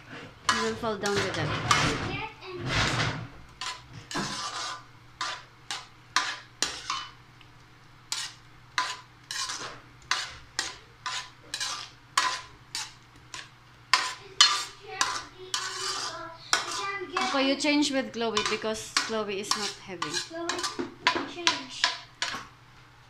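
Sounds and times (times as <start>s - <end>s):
metal spoon scraping in a pot: 0.1s - 7.2s, 8.1s - 22.4s.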